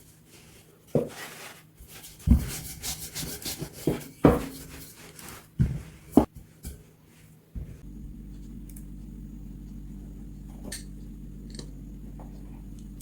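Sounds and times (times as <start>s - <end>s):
dough rubbing and pressing by hand: 0.2s - 13.0s.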